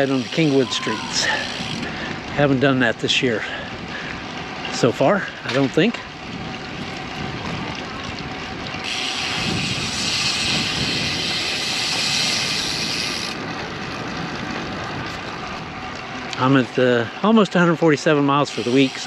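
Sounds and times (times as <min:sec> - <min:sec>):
wind rushing over microphone: 0:00.0 - 0:16.8
bicycle road noise: 0:00.0 - 0:19.0.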